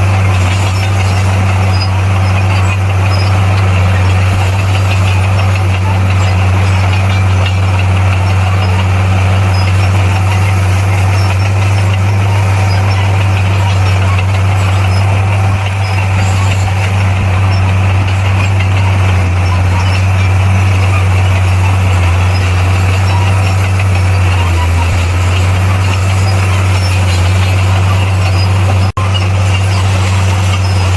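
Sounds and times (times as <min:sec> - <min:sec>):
bulldozer diesel engine running: 0:00.0 - 0:30.9.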